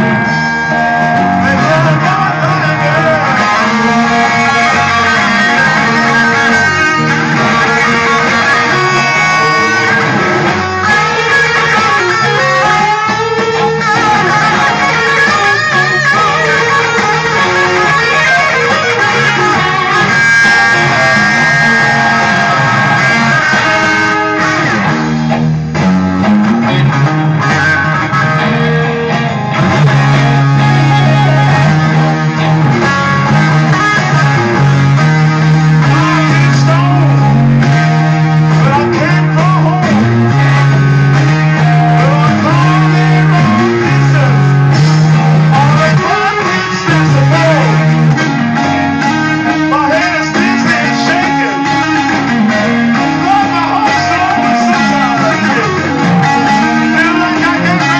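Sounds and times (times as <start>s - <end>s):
electric guitar music: 0.0s - 57.9s
loud low riff: 0.0s - 57.9s.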